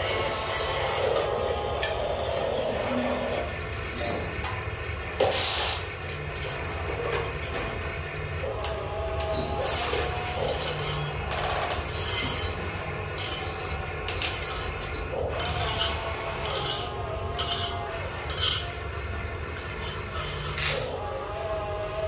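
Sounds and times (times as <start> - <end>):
toy electric motors whining: 0.0 - 22.0.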